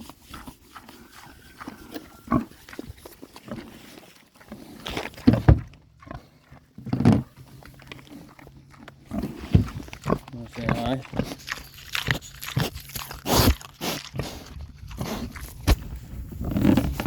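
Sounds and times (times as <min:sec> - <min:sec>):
pig grunting: 0:00.0 - 0:15.7.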